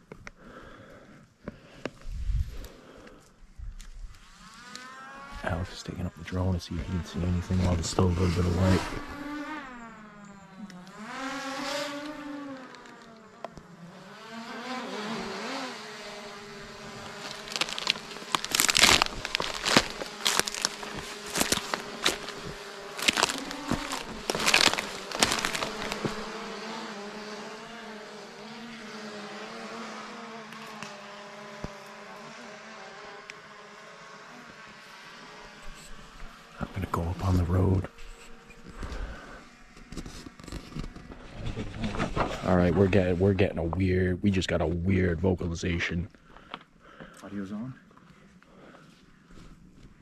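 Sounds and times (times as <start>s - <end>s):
drone propellers buzzing: 1.8s - 42.4s.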